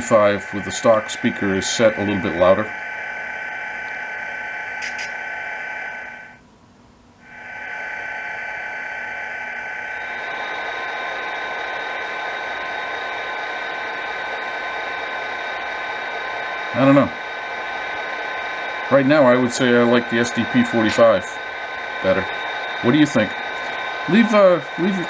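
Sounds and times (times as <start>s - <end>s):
model train diesel engine sound: 0.0s - 6.4s, 7.2s - 25.0s.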